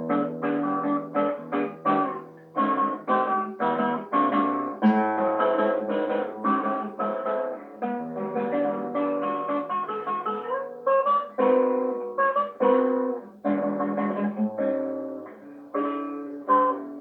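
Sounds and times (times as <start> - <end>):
acoustic guitar bossa nova: 0.0 - 17.0.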